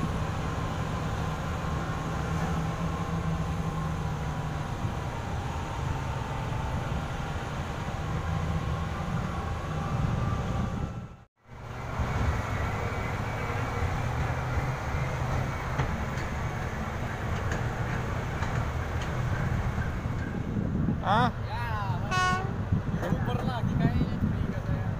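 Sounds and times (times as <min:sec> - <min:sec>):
vehicle rumbling on dirt road: 0:00.0 - 0:24.9.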